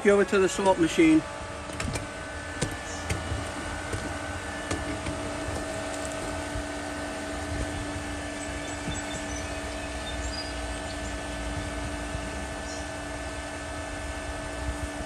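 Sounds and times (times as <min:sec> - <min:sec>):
pool pump humming and whining: 0:00.0 - 0:15.0.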